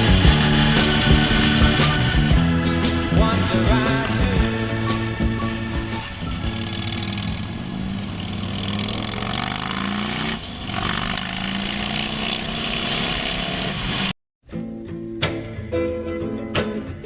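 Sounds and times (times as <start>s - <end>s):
steady rushing noise: 0.0s - 14.1s
motorcycle engine running: 0.0s - 14.2s.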